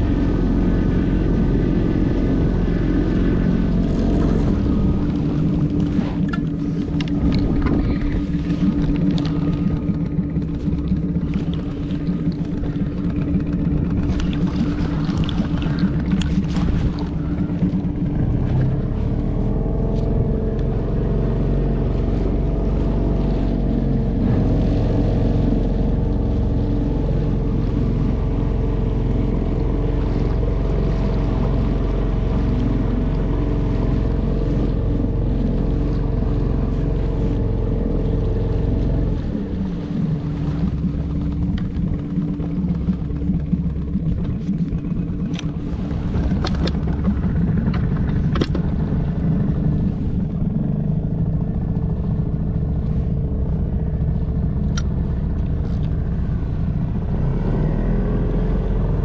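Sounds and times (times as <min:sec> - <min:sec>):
outboard motor running: 0:00.0 - 0:59.0
steady low rumble: 0:00.0 - 0:59.0
water washing along hull: 0:00.0 - 0:59.0.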